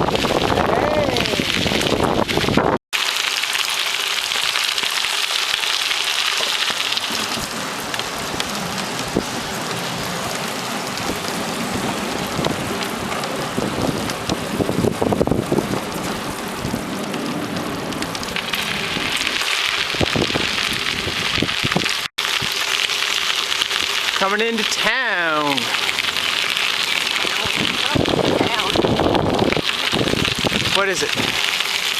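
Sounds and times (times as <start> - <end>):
bicycle tyres crunching gravel: 0.0 - 31.9.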